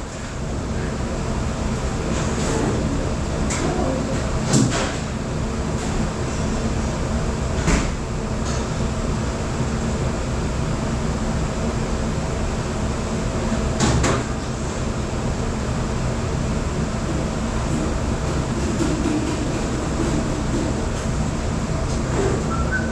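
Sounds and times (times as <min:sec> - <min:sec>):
dish room machine noise: 0:00.0 - 0:22.9.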